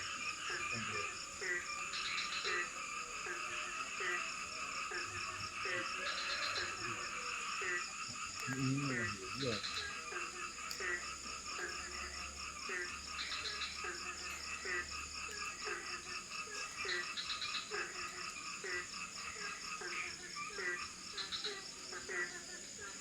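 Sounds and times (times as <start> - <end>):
frog short low croak: 0.0 - 22.4
frogs calling and trilling: 0.0 - 23.0
high insect drone: 0.0 - 23.0.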